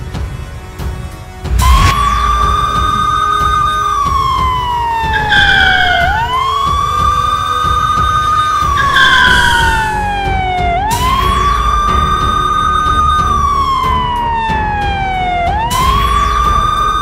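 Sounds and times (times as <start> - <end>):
background music: 0.0 - 17.0
police siren wailing: 1.6 - 17.0.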